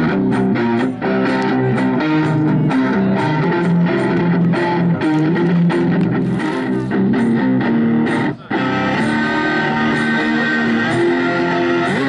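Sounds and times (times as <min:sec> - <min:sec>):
electric guitar blues riff: 0:00.0 - 0:12.0.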